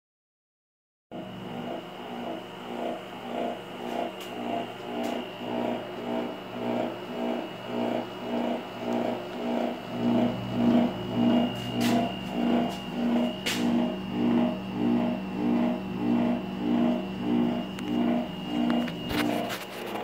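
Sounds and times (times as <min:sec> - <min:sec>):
heat pump compressor throbbing hum: 0:01.1 - 0:20.0.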